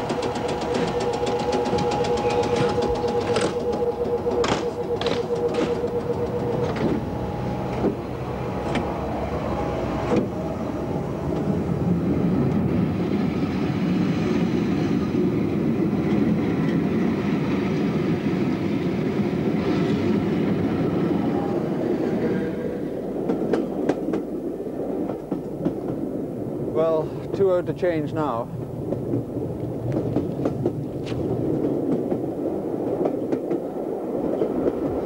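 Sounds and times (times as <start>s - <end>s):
train motors and wheels rumbling: 0.0s - 35.0s.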